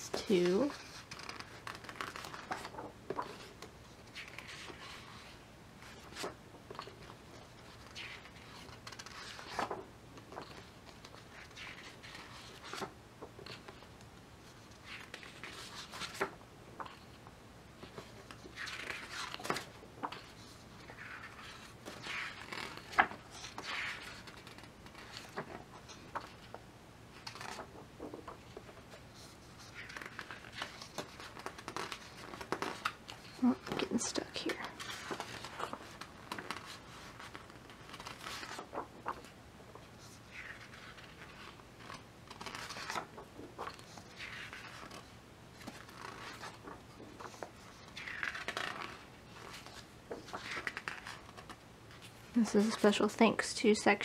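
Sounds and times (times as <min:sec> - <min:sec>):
paper pages rustling: 0:00.1 - 0:53.2.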